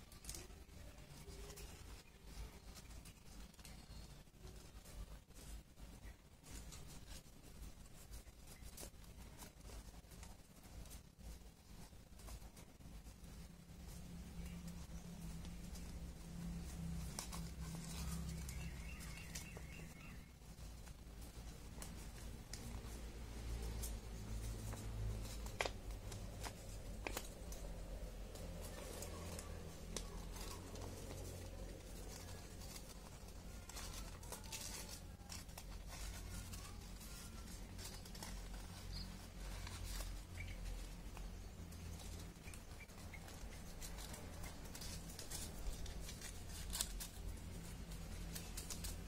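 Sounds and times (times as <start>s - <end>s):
low steady hum: 0.0s - 49.0s
soft clicks and crackles: 0.0s - 49.0s
paper rustling and crinkling: 6.4s - 49.0s.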